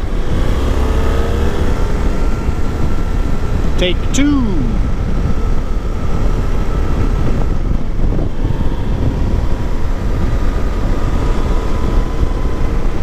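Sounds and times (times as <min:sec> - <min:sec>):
faint whine dropping in pitch: 0:00.0 - 0:13.0
motorcycle engine running: 0:00.0 - 0:13.0
wind rush on microphone: 0:00.0 - 0:13.0.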